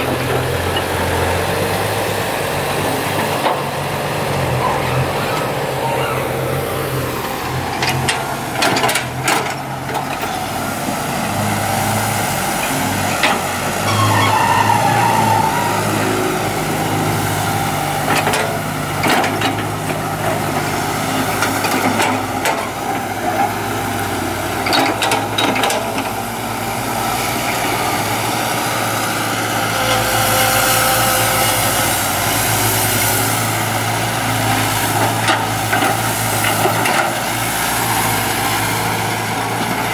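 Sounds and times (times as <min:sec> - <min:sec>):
bucket and tracks clanking: 0:00.0 - 0:39.9
dump truck pulling away: 0:00.0 - 0:39.9
excavator diesel engine running: 0:00.0 - 0:39.9.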